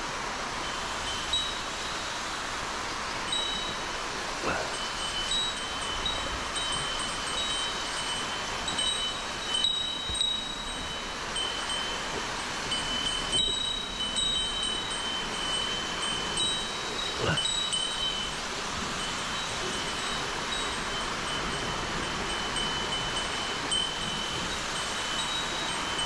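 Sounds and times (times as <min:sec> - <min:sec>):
insects trilling: 0:00.5 - 0:26.0.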